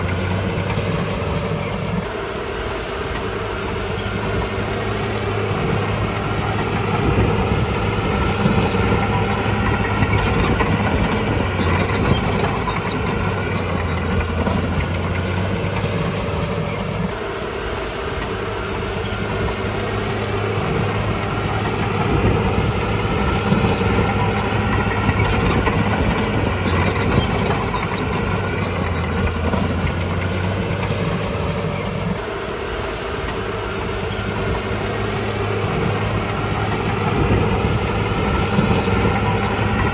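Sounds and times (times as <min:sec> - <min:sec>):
bulldozer diesel engine under load: 0:00.0 - 0:39.9
metallic track clanks and squeals: 0:03.1 - 0:17.2, 0:18.2 - 0:32.3, 0:33.0 - 0:39.9.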